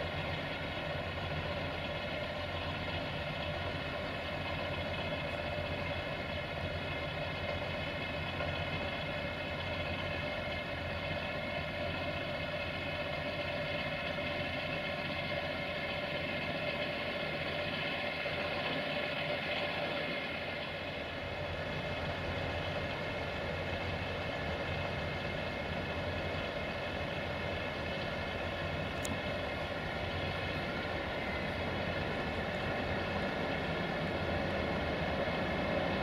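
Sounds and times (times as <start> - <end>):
diesel engine idling: 0.0 - 36.0
electric locomotive hum: 0.0 - 36.0.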